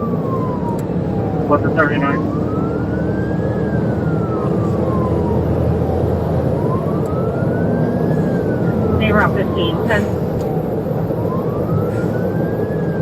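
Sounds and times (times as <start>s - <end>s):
police siren wailing: 0.0s - 13.0s
road and engine noise: 0.0s - 13.0s.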